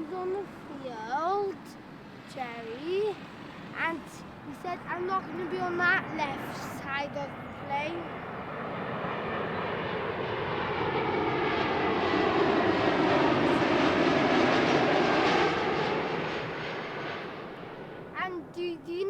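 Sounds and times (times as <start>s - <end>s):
airliner engine noise: 0.0s - 19.0s.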